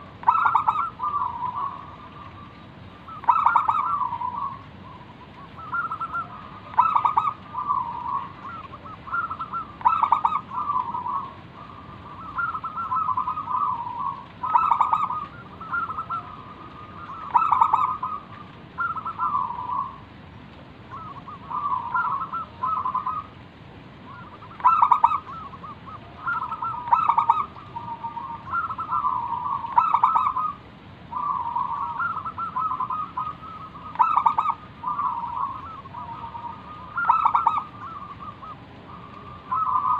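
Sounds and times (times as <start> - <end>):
dove cooing: 0.0 - 20.2, 20.9 - 23.4, 24.1 - 39.9.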